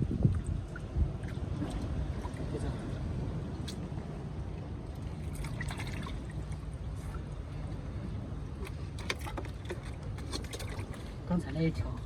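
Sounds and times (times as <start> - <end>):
shallow water splashing: 0.0 - 12.0
steady low rumble: 0.0 - 12.0.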